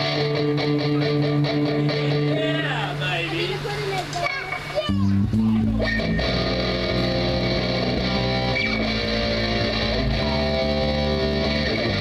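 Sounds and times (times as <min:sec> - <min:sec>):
electric guitars playing chords: 0:00.0 - 0:12.0.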